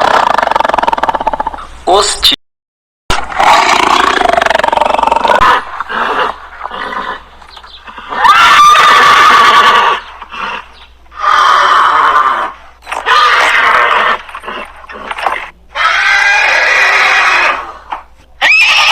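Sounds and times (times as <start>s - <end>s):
animal calls: 0.0s - 1.7s, 3.4s - 17.8s, 18.4s - 18.9s.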